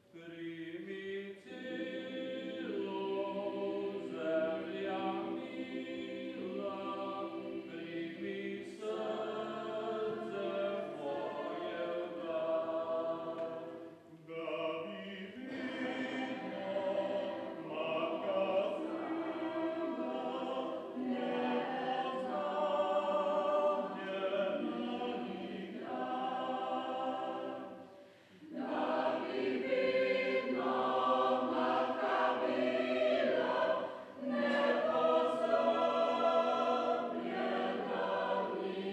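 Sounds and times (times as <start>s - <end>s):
mixed choir singing: 0.2s - 38.9s.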